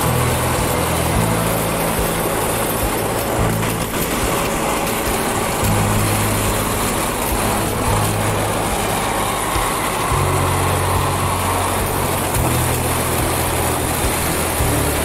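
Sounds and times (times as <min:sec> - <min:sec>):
constant hiss: 0:00.0 - 0:15.0
engine humming: 0:00.0 - 0:15.0.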